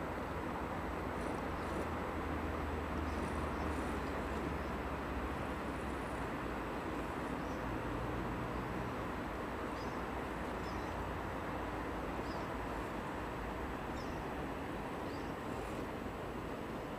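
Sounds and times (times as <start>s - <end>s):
outdoor background hiss: 0.0s - 16.9s.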